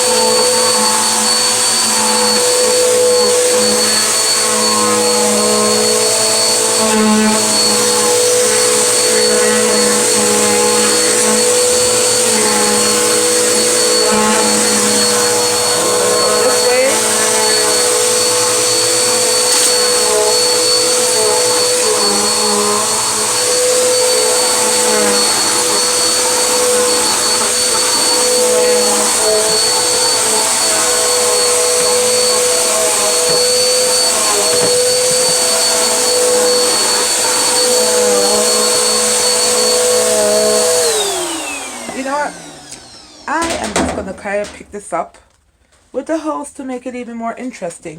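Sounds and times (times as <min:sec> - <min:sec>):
vacuum cleaner running: 0:00.0 - 0:44.8.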